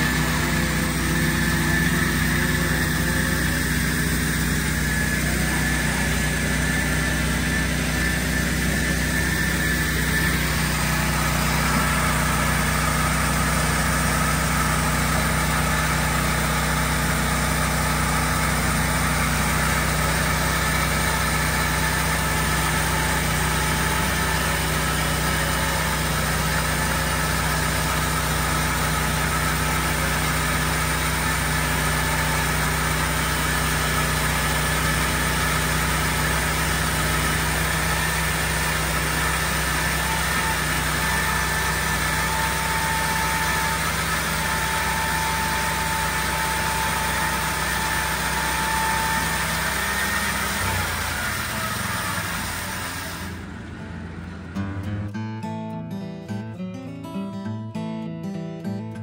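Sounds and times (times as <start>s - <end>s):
engine idling: 0.0s - 55.2s.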